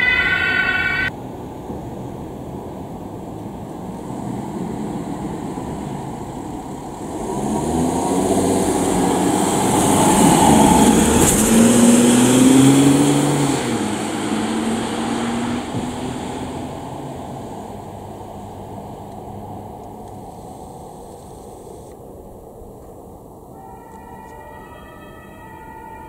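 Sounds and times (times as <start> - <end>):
ambulance engine driving past: 0.0 - 21.9.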